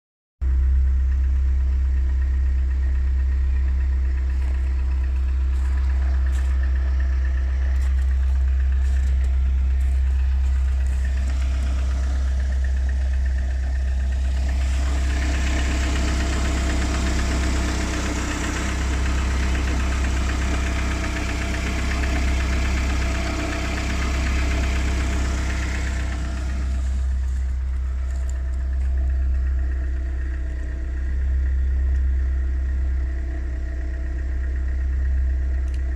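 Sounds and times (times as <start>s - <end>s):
car engine idling with knock: 0.4s - 35.9s.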